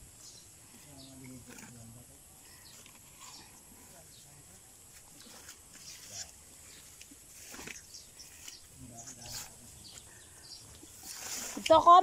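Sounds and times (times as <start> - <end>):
leaves and stems rustling: 0.0 - 12.0.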